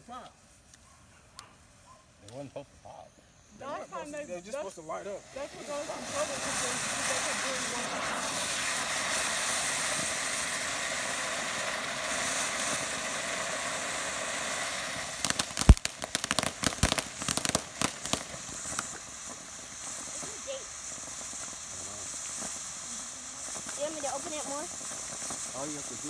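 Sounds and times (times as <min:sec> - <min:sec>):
fountain fireworks hissing: 0:00.0 - 0:26.0
firework cracks and pops: 0:03.9 - 0:26.0.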